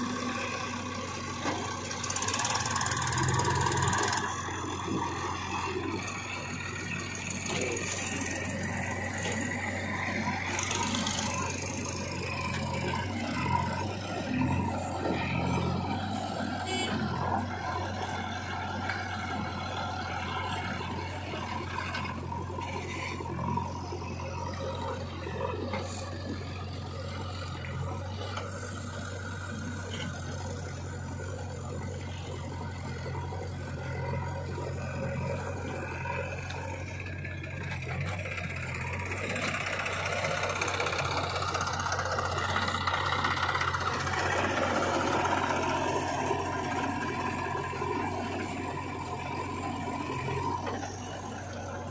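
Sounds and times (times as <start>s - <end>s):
diesel engines running: 0.0s - 51.9s.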